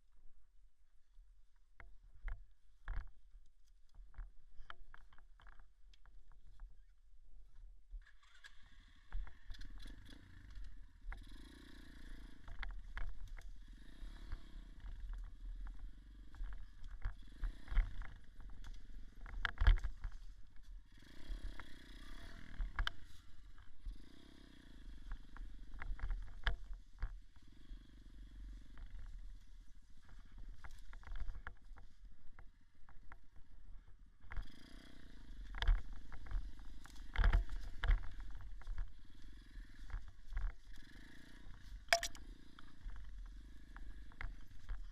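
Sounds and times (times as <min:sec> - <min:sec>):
knocks and rattles over rough ground: 0:01.8 - 0:06.8, 0:12.1 - 0:24.1, 0:24.9 - 0:44.9.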